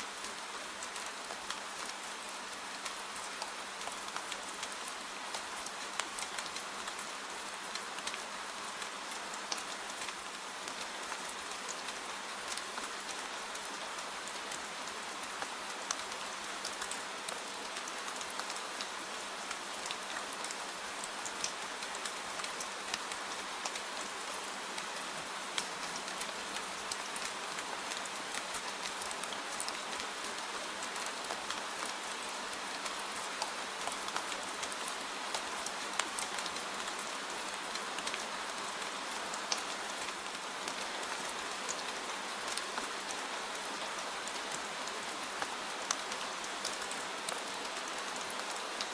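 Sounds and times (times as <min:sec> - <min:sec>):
gentle rain: 0:00.0 - 0:48.9.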